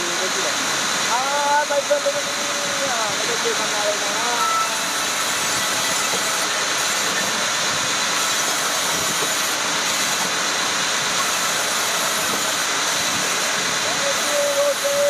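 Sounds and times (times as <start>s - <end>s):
woodworking machinery running: 2.0s - 15.0s.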